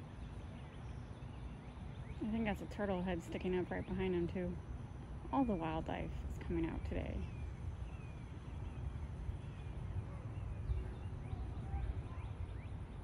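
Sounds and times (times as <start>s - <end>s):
faint bird chirps: 0.0s - 13.0s
wind rumbling on microphone: 0.0s - 13.0s.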